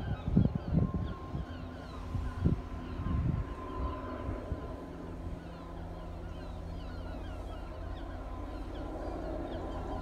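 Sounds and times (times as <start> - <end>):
distant helicopter drone: 0.0 - 10.0.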